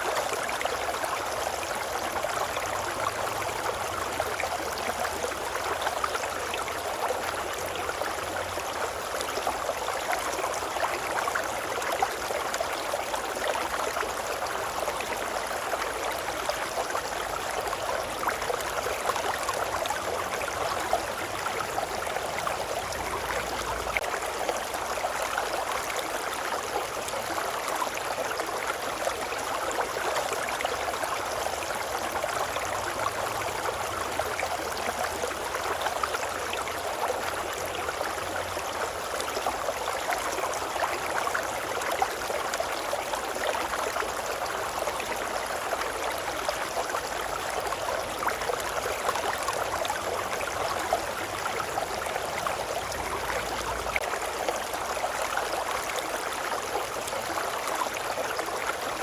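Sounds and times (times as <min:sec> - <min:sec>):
shallow river babbling: 0:00.0 - 0:59.0.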